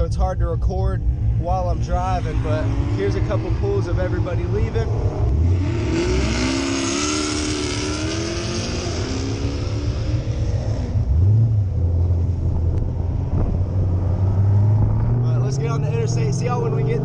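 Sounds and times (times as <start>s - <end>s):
deep steady engine note: 0.0s - 17.0s
cars accelerating hard: 1.1s - 17.0s.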